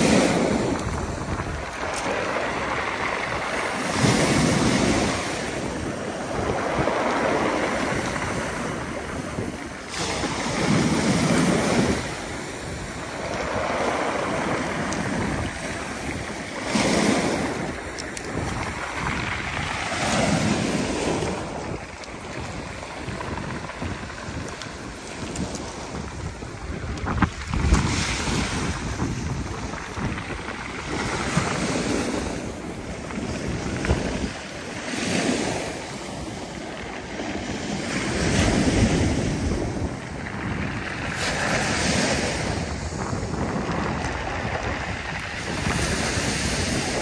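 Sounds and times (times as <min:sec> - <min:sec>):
surf breaking on pebble beach: 0:00.0 - 0:47.0.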